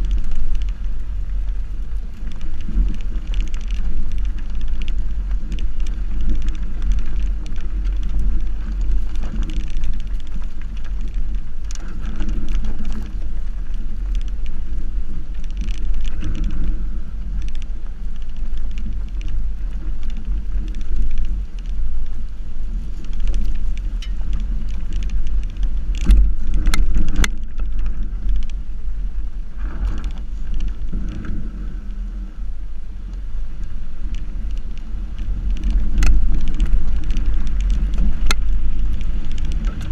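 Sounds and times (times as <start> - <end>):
tyres rumbling over gravel: 0.0 - 39.9.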